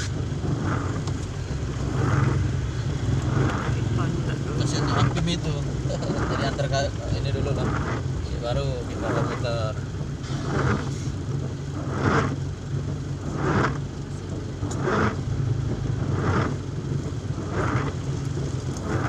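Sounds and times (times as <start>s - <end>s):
car engine and cabin hum: 0.0s - 19.0s
rain: 0.0s - 19.0s
windscreen wipers swishing: 0.0s - 19.0s.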